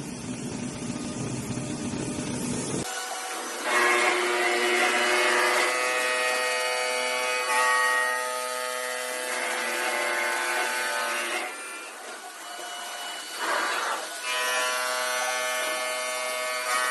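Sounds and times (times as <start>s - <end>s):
stone saw motor whine: 0.0s - 16.9s.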